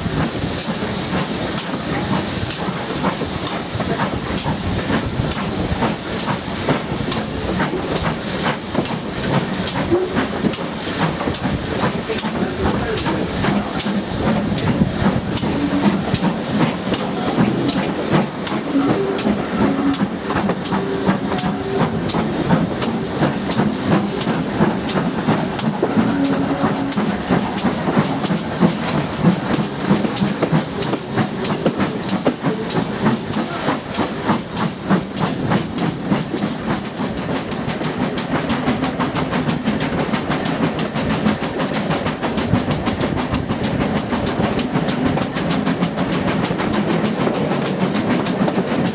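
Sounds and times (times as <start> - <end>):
steam locomotive chuffing: 0.0 - 48.9
train wheels clicking over rail joints: 0.0 - 48.9.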